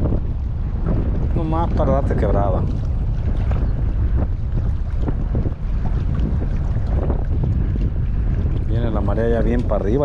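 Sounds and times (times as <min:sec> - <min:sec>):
choppy water splashing: 0:00.0 - 0:10.0
wind buffeting microphone: 0:00.0 - 0:10.0.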